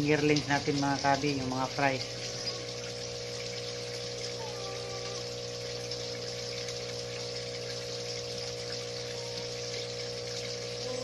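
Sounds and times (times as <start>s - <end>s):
electric pump humming: 0.0s - 11.0s
moving water: 0.0s - 11.0s.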